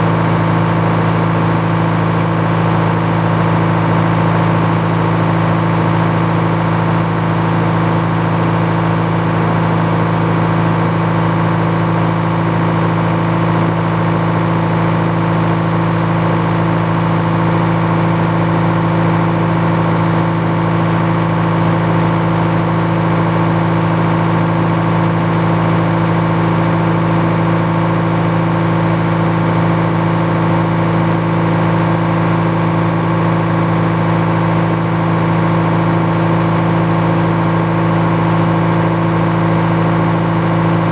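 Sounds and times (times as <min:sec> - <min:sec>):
sawmill engine running steadily: 0:00.0 - 0:40.9.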